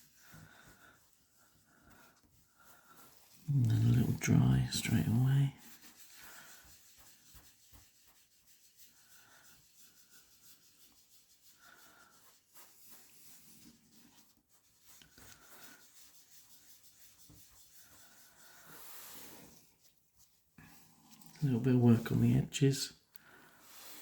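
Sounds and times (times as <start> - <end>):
soft rubbing with small ticks: 0.0 - 22.3.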